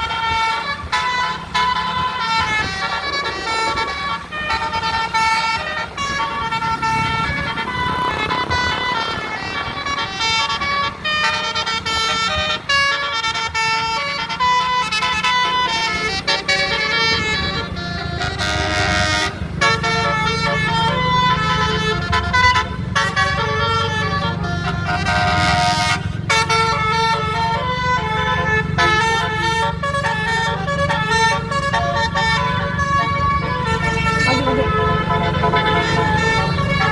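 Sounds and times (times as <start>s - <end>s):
multi-tone air horn tune: 0.0s - 36.9s.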